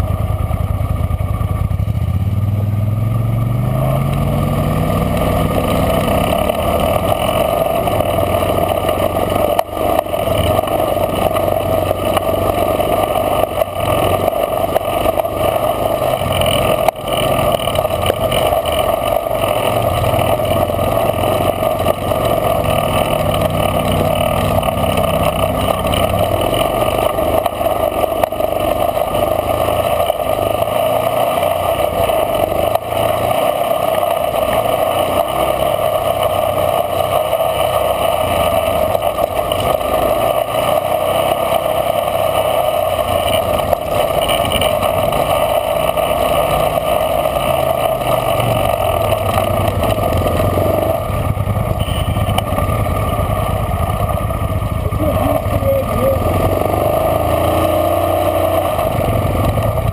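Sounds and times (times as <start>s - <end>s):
atv engine rumbling: 0.0s - 59.9s.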